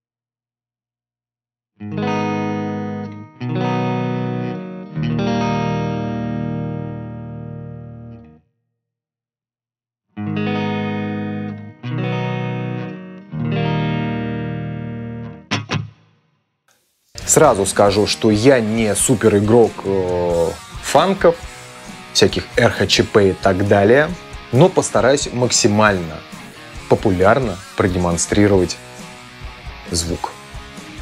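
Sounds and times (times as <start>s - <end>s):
electric guitar strummed chords: 1.8s - 8.4s, 10.2s - 16.0s, 17.2s - 31.0s.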